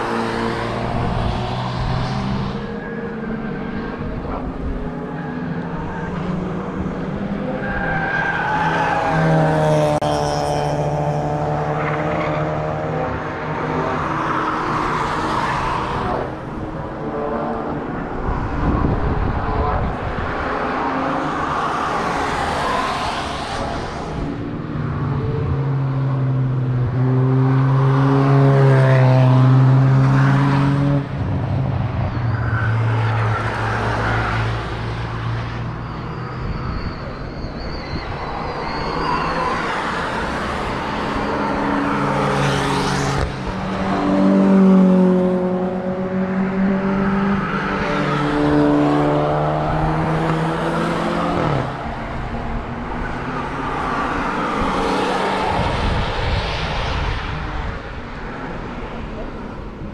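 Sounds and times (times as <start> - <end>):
race cars driving past: 0.0 - 59.9.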